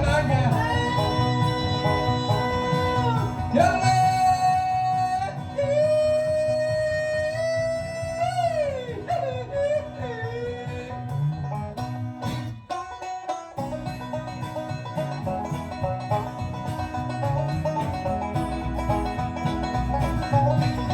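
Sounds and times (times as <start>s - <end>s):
sliding lead string notes: 0.0s - 20.9s
strummed guitar: 0.0s - 20.9s.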